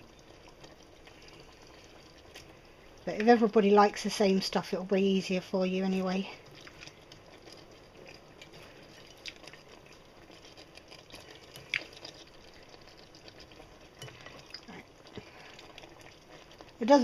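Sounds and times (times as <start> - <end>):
sauce simmering: 0.0 - 17.0.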